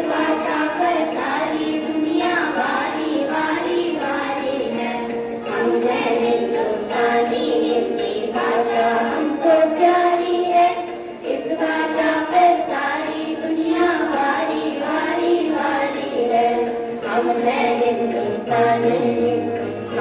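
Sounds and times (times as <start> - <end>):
children singing in unison: 0.0 - 20.0.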